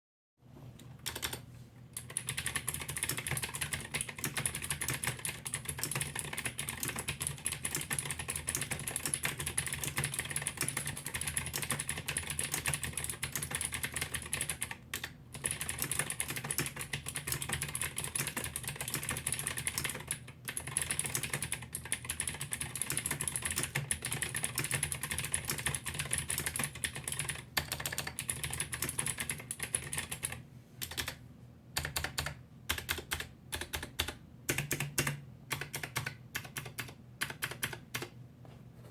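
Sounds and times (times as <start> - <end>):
mechanical keyboard typing: 1.0 - 1.4, 2.0 - 31.2, 31.8 - 38.2.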